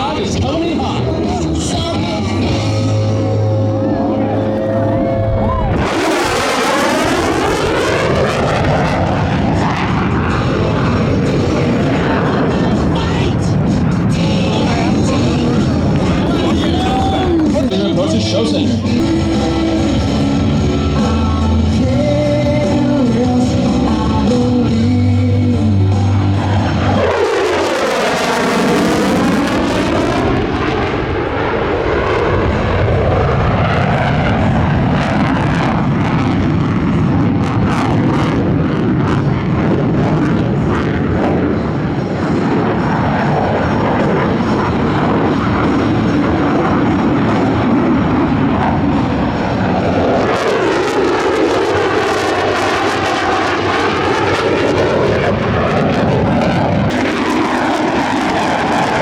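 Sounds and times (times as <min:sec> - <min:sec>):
fighter jet flying low pass: 0:00.0 - 0:59.0.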